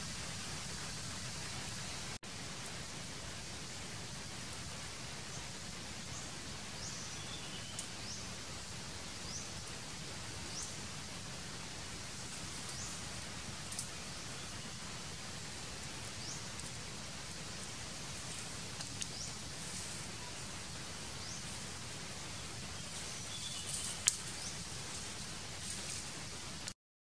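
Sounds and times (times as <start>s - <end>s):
outdoor ambience hiss: 0.0s - 26.8s.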